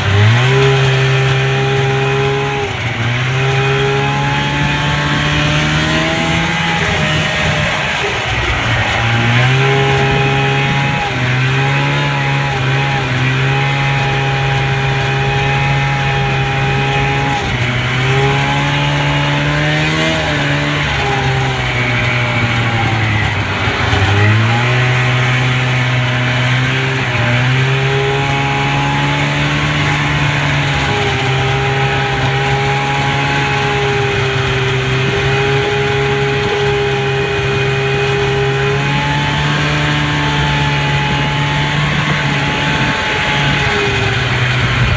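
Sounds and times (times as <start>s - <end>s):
snowmobile engine running: 0.0s - 44.9s.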